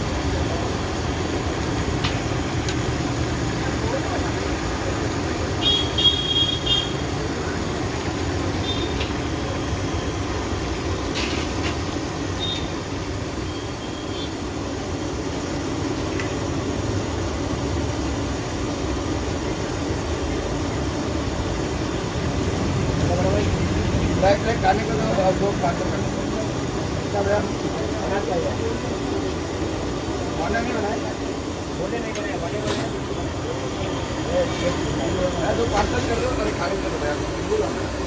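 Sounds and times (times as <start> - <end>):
street traffic rumble: 0.0 - 38.0.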